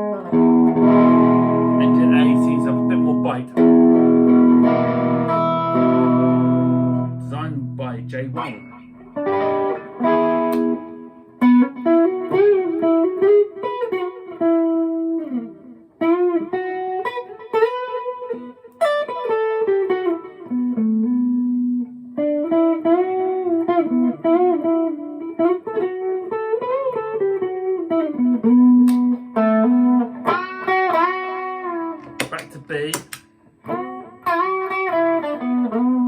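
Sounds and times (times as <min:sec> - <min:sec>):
overdriven electric guitar lead: 0:00.0 - 0:36.0.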